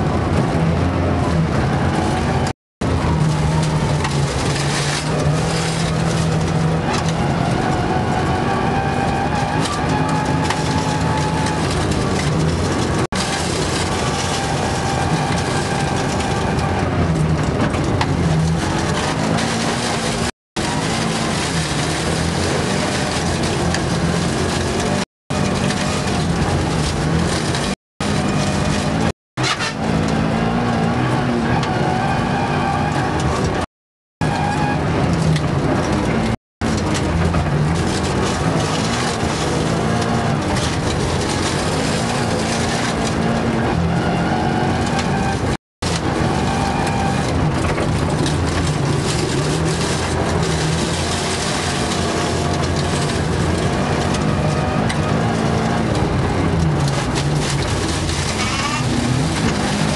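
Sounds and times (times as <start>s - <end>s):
car engine revving: 0.0s - 59.9s
tyre and snow noise: 0.0s - 59.9s.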